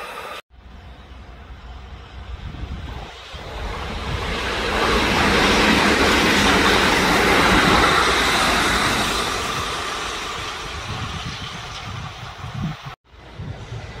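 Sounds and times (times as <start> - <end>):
electric train passing at speed: 0.0 - 14.0
train wheels running on rails: 0.0 - 14.0.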